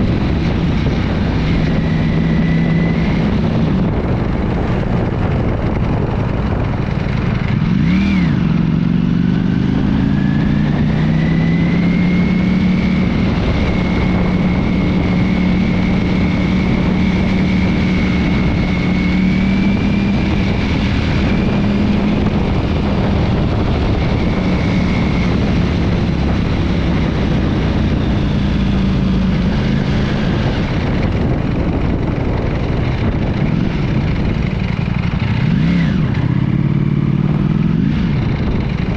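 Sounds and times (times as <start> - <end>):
constant rushing noise: 0.0 - 38.9
motorcycle engine running: 0.0 - 38.9.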